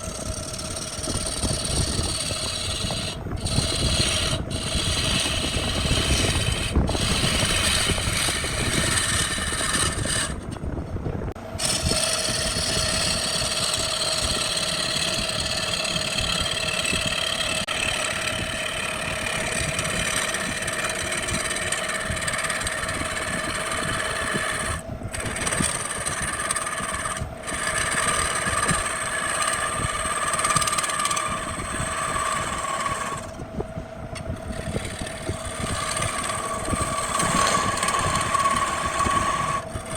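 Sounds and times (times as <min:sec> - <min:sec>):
wood lathe motor hum: 0:00.0 - 0:10.6, 0:11.3 - 0:39.9
tool scraping spinning wood: 0:00.0 - 0:39.9.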